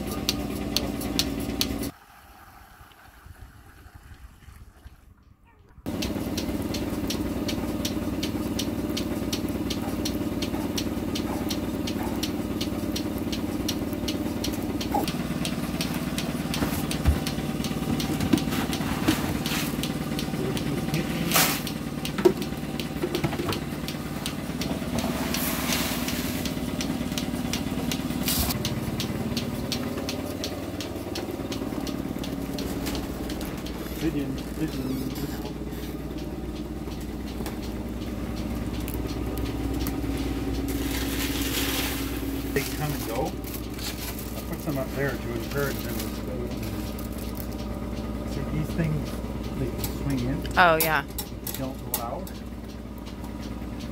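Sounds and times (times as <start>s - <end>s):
small motor running with ticking: 0.0s - 2.0s, 5.8s - 53.9s.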